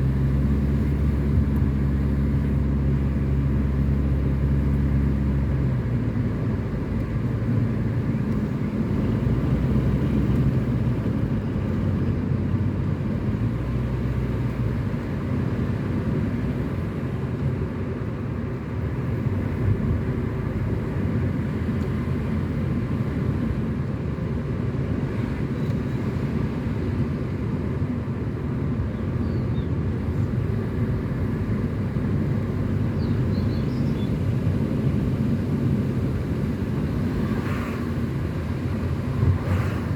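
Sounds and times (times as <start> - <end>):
car engine hum: 0.0 - 39.9
tyre and road rumble: 0.0 - 39.9.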